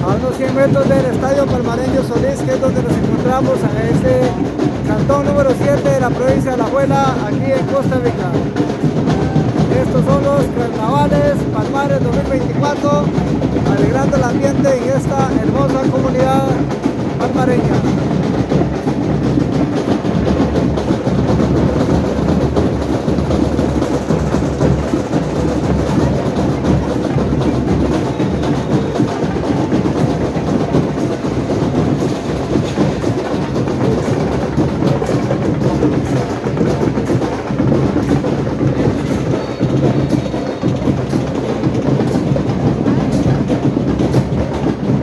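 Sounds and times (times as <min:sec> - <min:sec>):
street band drums and percussion: 0:00.0 - 0:45.0.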